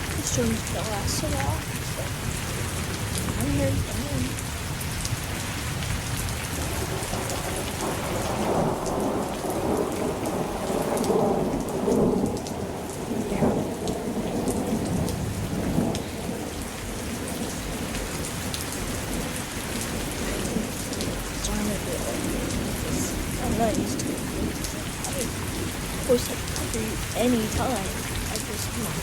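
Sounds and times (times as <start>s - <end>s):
rain pattering: 0.0s - 29.0s
rolling thunder: 0.0s - 29.0s.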